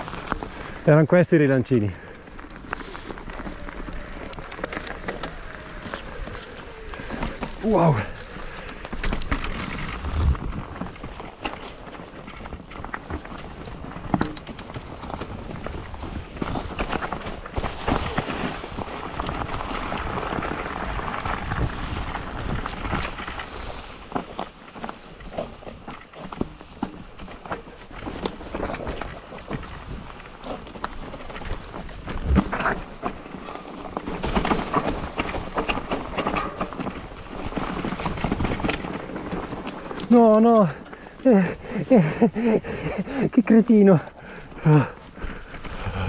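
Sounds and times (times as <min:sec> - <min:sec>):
bike tyres crunching through leaves: 0:00.0 - 0:46.0
bike clicks and knocks: 0:02.0 - 0:41.2.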